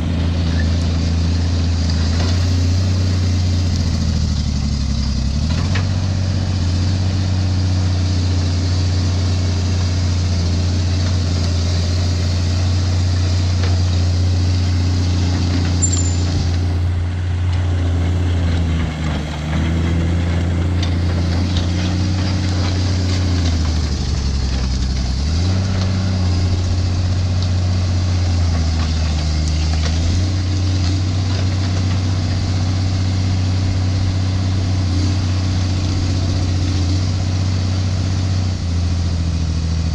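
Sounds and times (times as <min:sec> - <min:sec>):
vehicle engine under load: 0:00.0 - 0:39.9.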